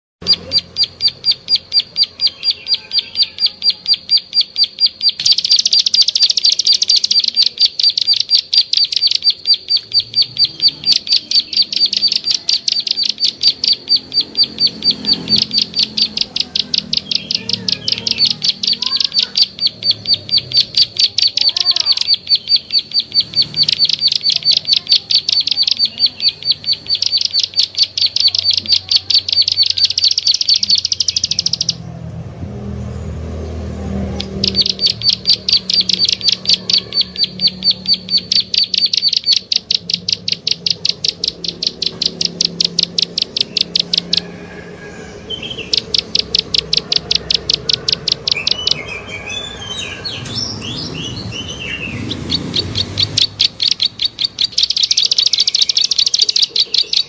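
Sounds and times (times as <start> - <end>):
sharp bird click notes: 0.2 - 31.8, 34.2 - 44.3, 45.3 - 49.1, 49.9 - 57.0.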